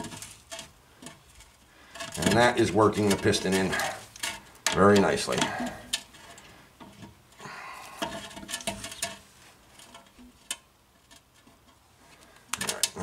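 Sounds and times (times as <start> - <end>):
metallic clicks and scrapes: 0.0 - 7.2, 7.8 - 13.0.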